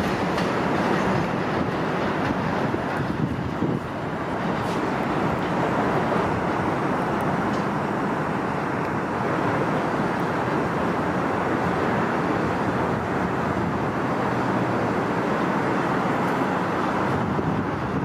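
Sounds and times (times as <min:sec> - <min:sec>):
subway train wheels on elevated track: 0:00.0 - 0:18.0.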